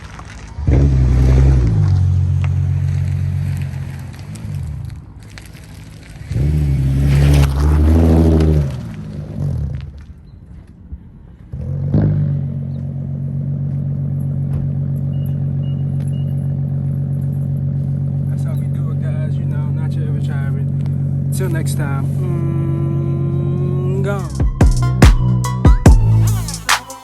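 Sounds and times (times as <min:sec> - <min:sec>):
car engine idling: 0:00.0 - 0:07.0, 0:10.8 - 0:27.0
car engine revving: 0:00.0 - 0:10.1, 0:11.4 - 0:25.0.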